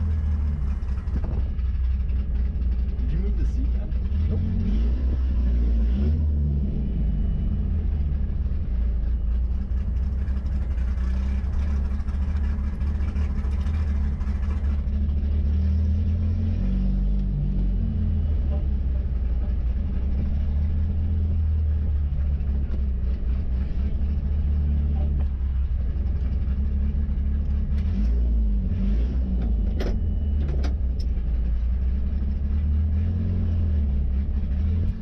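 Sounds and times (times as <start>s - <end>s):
car engine running at low revs: 0.0s - 35.0s.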